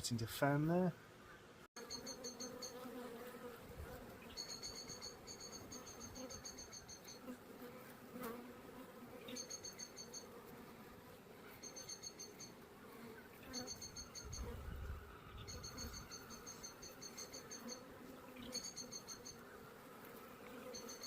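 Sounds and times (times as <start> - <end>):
bees buzzing: 0.4 - 21.0.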